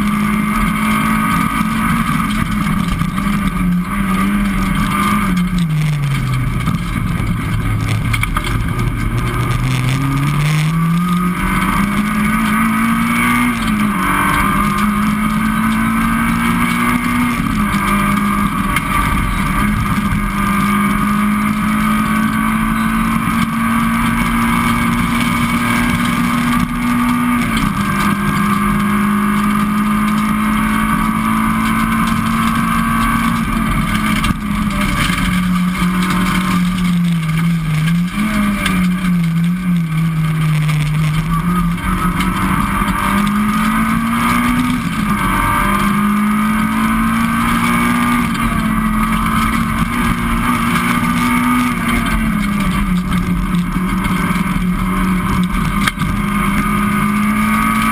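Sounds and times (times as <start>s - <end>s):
car engine at high revs: 0.0s - 57.9s.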